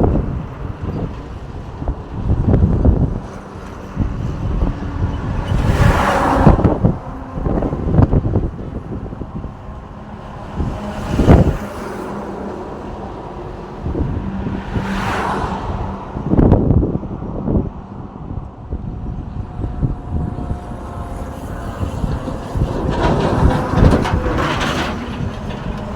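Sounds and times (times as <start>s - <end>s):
cars and trucks passing: 0.0s - 25.9s.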